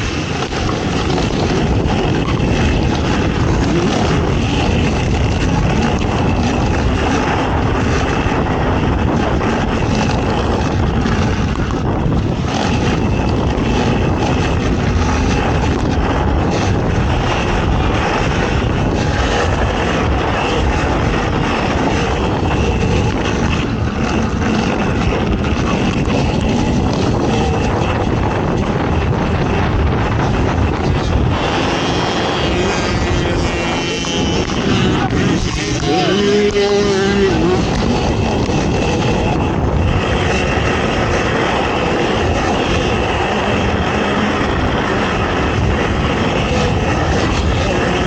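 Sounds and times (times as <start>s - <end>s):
atv engine running hard: 0.0s - 48.0s.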